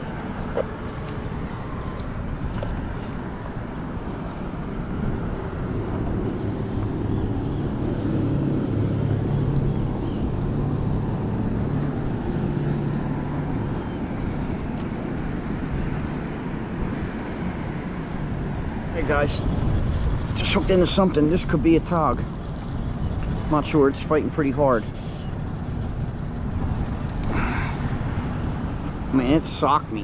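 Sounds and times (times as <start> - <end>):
low engine drone: 0.0 - 30.0
wind buffeting microphone: 0.0 - 30.0.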